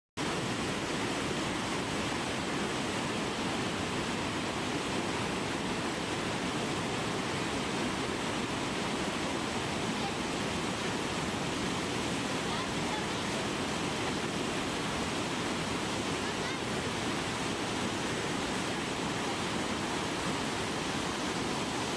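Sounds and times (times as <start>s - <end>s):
waterfall rushing: 0.2s - 21.9s.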